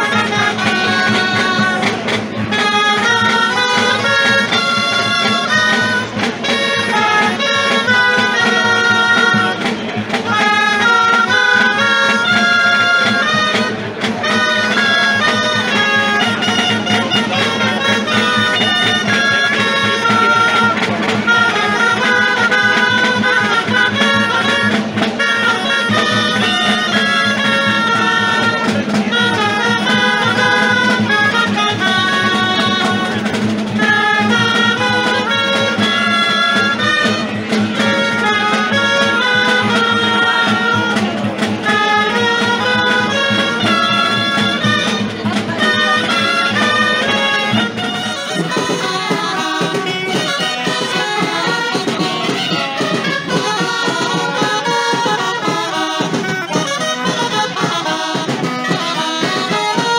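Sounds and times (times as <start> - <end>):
folk dance music on wind instruments: 0.0 - 59.9
violins clarinet and drum ensemble: 0.0 - 59.9.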